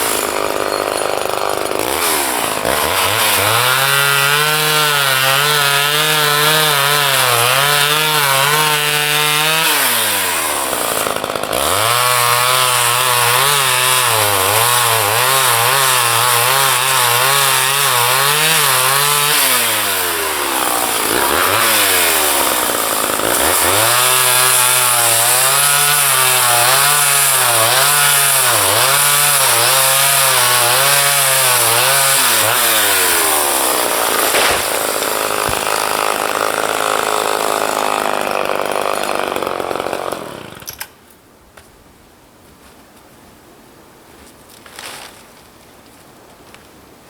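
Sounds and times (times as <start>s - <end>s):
chainsaw cutting wood: 0.0s - 41.0s.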